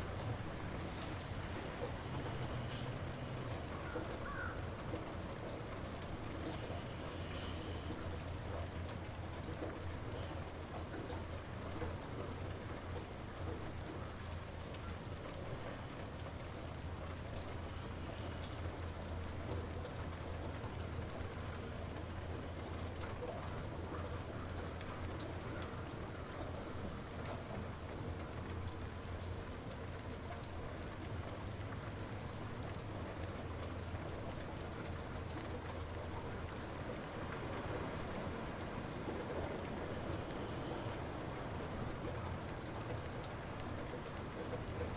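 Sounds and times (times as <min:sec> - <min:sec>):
light rain falling: 0:00.0 - 0:44.9.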